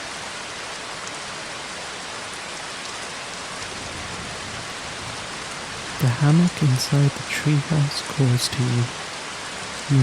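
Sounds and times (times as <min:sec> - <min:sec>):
steady rain: 0:00.0 - 0:10.0.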